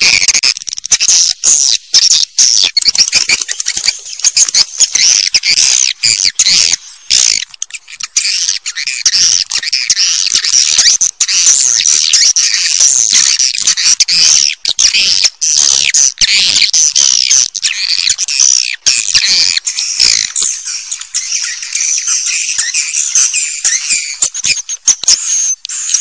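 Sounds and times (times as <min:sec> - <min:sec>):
swiftlets twittering: 0:00.0 - 0:26.0.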